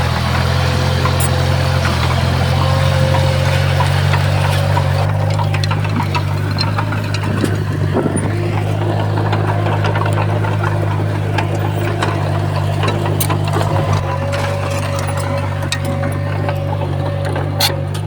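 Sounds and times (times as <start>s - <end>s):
bulldozer diesel engine humming: 0.0s - 18.0s
sharp clicks and knocks: 0.0s - 18.0s.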